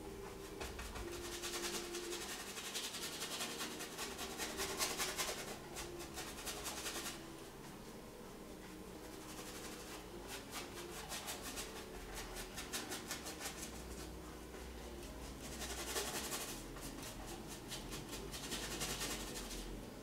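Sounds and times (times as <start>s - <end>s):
bristle brush scrubbing canvas: 0.0s - 7.3s, 9.0s - 19.8s.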